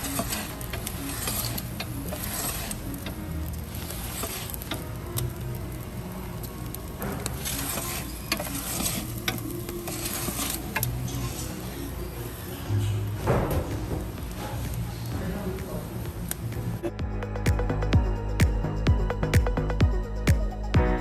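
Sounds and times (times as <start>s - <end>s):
logs burning with crackles: 0.0s - 17.6s.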